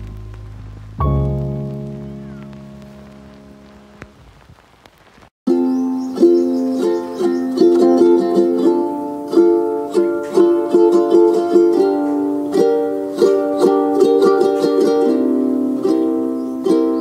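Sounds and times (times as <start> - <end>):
plucked string tune over chords: 0.0 - 4.2, 5.5 - 17.0.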